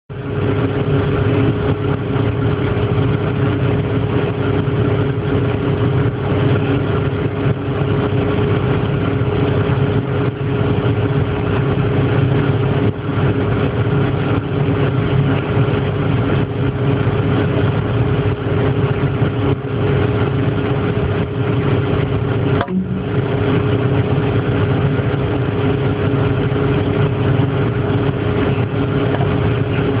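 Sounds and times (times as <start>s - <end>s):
steady mechanical hum: 0.1s - 30.0s.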